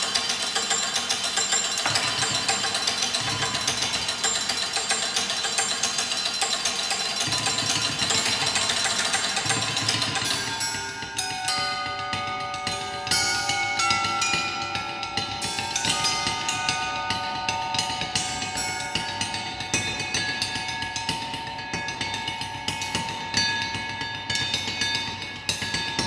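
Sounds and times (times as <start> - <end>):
long ringing metal tones: 0.0 - 26.0.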